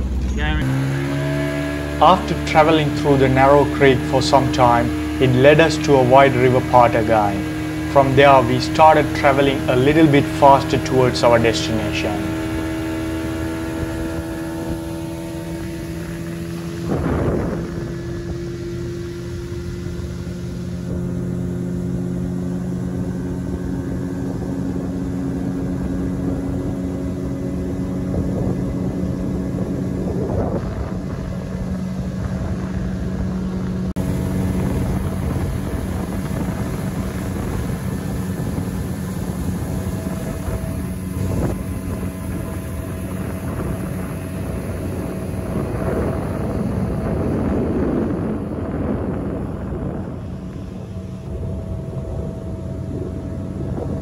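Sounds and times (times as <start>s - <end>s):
motorboat engine running: 0.0s - 54.0s
rushing water and wind: 0.0s - 54.0s.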